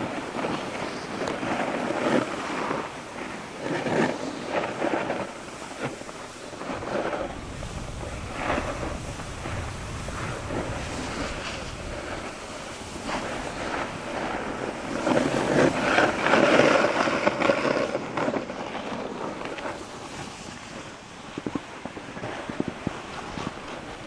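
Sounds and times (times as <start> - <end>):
snowboards sliding over snow: 0.0 - 24.0
wind buffeting microphone: 0.0 - 24.0.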